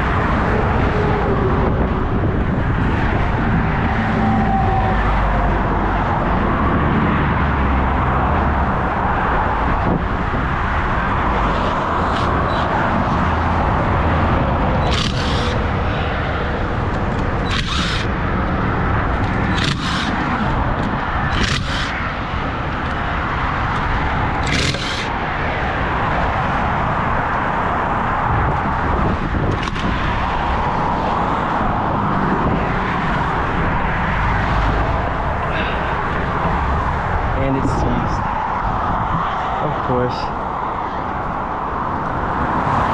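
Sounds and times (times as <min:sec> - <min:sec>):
highway traffic passing: 0:00.0 - 0:42.9.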